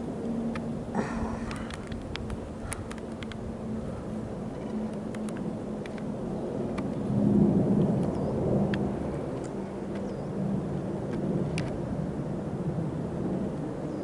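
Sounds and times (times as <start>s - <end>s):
distant jet airliner rumble: 0.0s - 14.0s.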